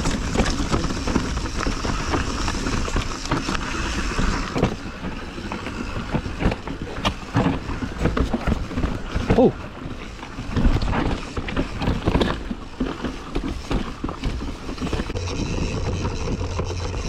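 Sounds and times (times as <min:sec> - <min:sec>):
bike rattling and knocking: 0:00.0 - 0:17.0
tyres rolling over dirt and rocks: 0:00.0 - 0:17.0.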